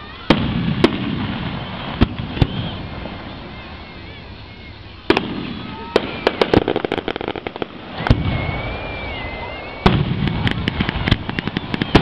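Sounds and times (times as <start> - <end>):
firework bangs: 0.0 - 12.0
firework crackling: 0.0 - 12.0
firework whistle: 0.0 - 12.0.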